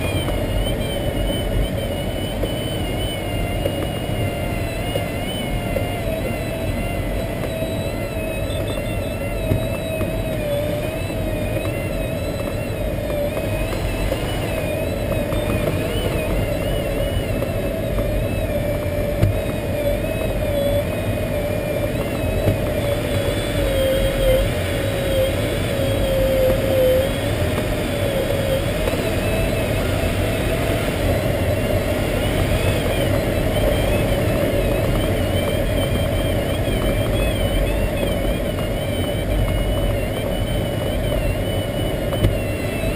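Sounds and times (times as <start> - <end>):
airflow rushing past glider cockpit: 0.0 - 42.9.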